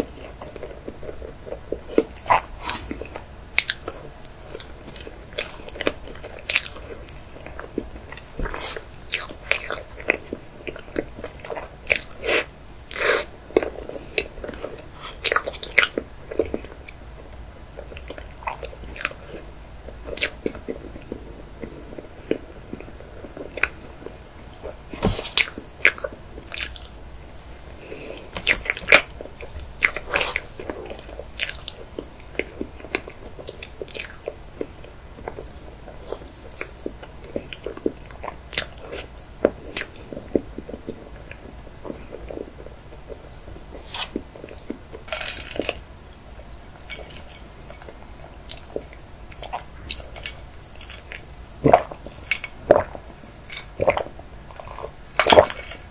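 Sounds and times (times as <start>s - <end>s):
close chewing with mouth clicks: 0.0s - 55.9s.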